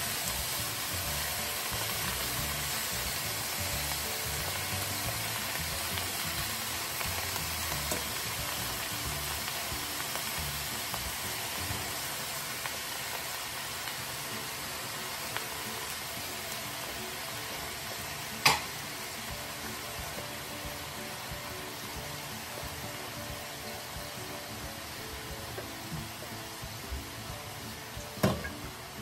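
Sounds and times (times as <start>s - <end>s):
vegetables sizzling in oil: 0.0s - 29.0s.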